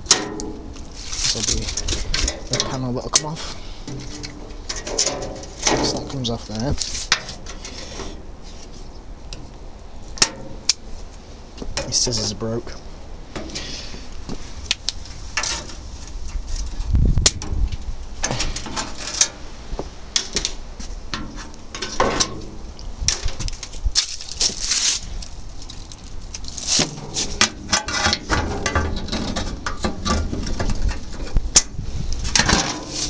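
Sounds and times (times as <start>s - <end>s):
rustling: 0.0s - 33.0s.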